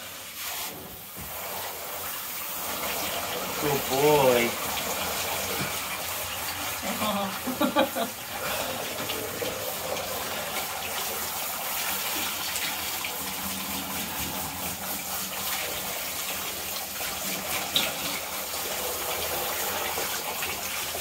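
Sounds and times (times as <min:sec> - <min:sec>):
shower spraying water on dog: 0:00.0 - 0:21.0.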